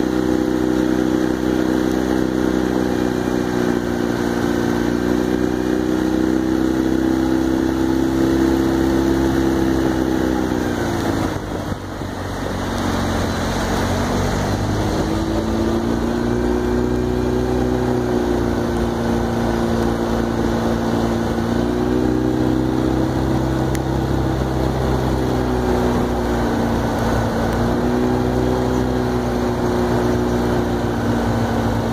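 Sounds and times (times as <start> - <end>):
outboard motor running: 0.0 - 31.9.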